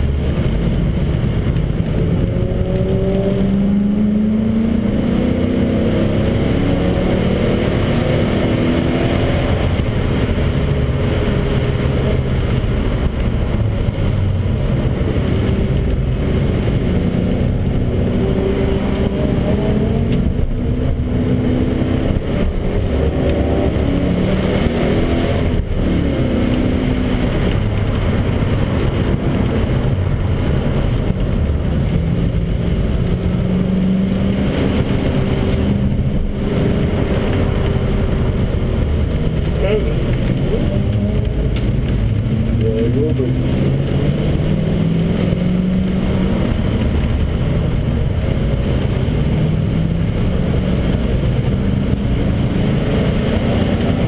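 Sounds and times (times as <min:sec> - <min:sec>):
car engine revving: 0:00.0 - 0:54.0
road and tyre rumble: 0:00.0 - 0:54.0.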